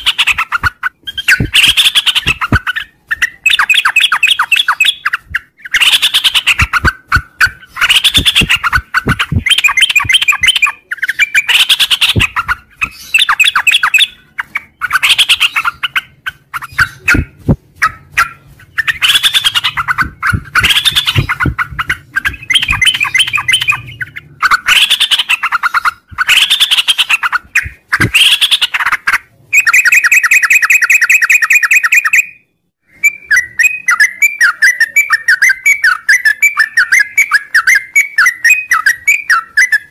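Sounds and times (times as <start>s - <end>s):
bird chattering song: 0.0s - 39.9s
bird trill: 0.0s - 39.9s.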